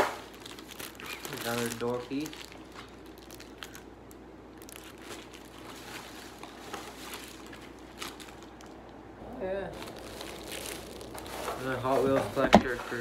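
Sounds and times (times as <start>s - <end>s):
sharp crackles: 0.0s - 9.0s, 9.7s - 13.0s
plastic bag rustling: 0.0s - 13.0s.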